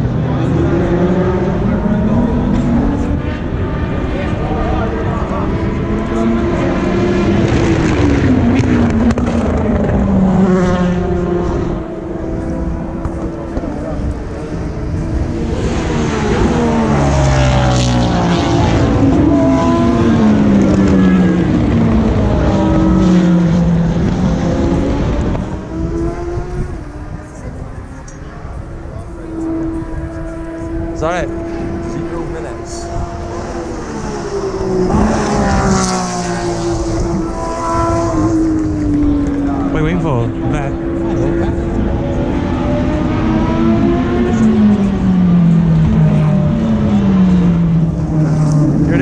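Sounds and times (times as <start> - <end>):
race car engines braking and accelerating: 0.0 - 49.0.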